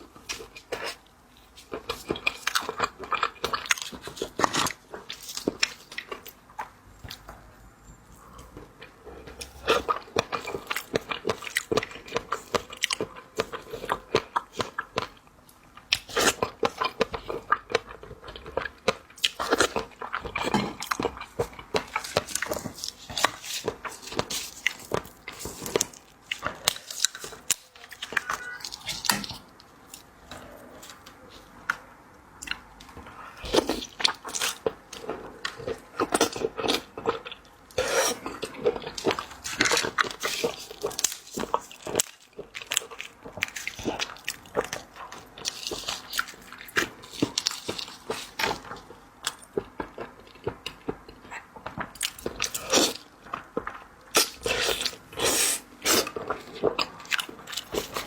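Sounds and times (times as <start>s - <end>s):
person chewing crunchy seafood: 0.0s - 7.3s, 8.1s - 58.0s.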